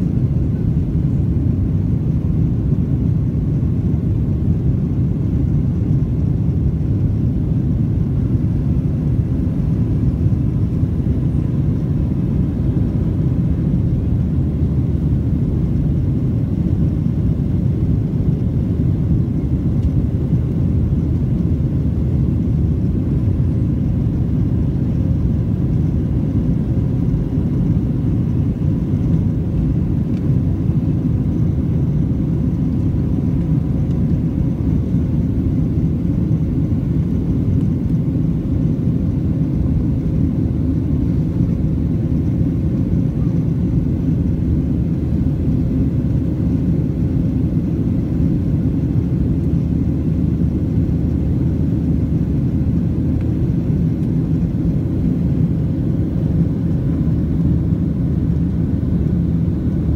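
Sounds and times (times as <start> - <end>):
airplane cabin rumble: 0.0 - 59.9
faint steady whine: 0.0 - 59.9.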